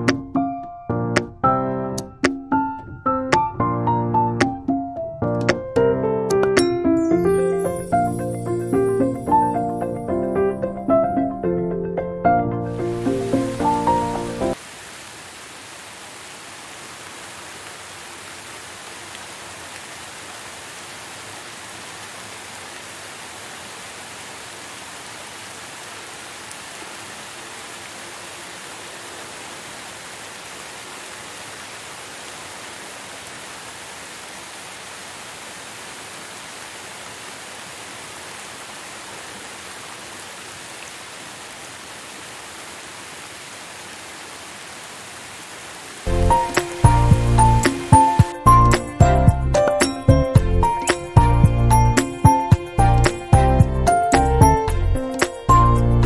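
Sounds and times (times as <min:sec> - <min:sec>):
steady rain falling: 0:07.1 - 0:11.3, 0:12.7 - 0:56.0.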